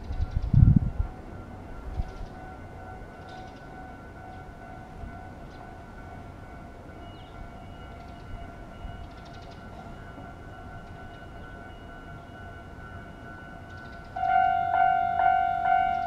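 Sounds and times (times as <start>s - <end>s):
level-crossing alarm bell tones: 0.7s - 16.0s.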